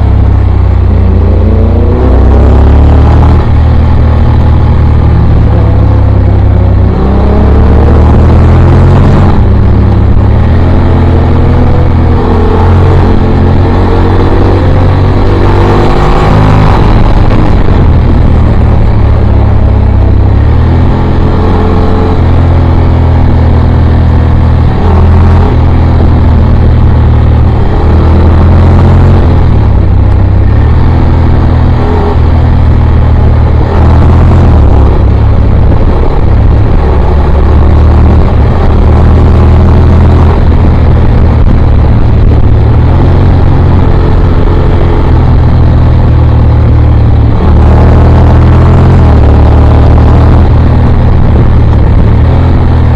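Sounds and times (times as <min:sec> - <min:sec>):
motorcycle engine at road speed: 0:00.0 - 0:52.9.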